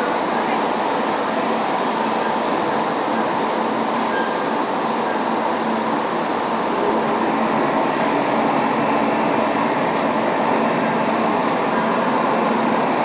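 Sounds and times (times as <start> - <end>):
conveyor machinery noise: 0.0 - 13.0.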